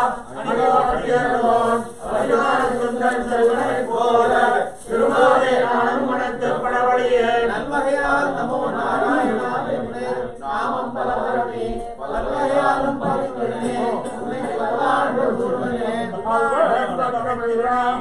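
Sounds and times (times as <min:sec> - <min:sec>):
men chanting a hymn: 0:00.0 - 0:18.0.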